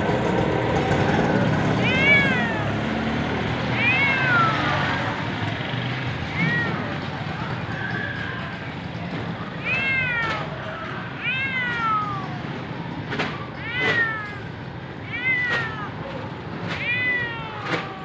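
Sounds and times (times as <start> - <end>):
cat meowing: 1.8 - 8.6, 9.4 - 18.0.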